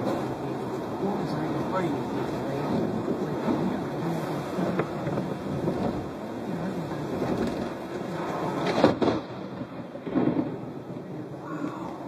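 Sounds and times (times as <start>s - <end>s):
car driving on wet road: 0.0s - 12.0s
thunder rumbling: 0.0s - 12.0s.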